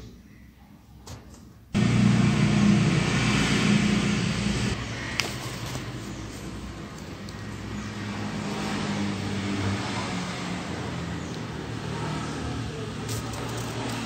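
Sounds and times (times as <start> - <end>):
engine humming: 1.8 - 14.0.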